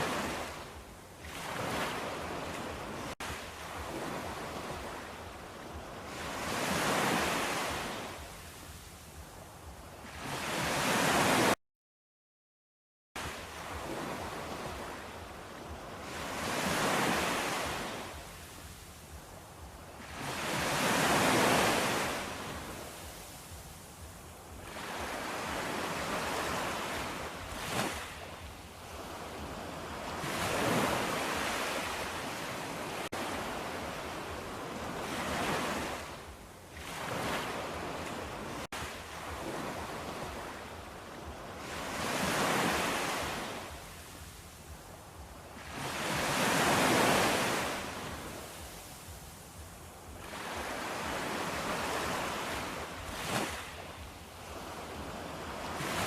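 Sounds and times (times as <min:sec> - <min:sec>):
waves washing in: 0:00.0 - 0:11.6, 0:13.2 - 0:56.0.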